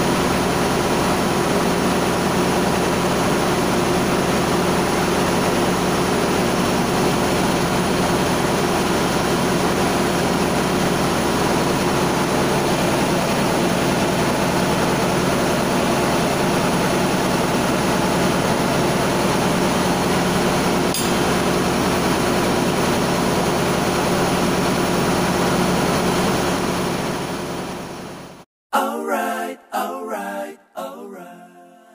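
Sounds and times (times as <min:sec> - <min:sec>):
engine room machinery drone: 0:00.0 - 0:28.5.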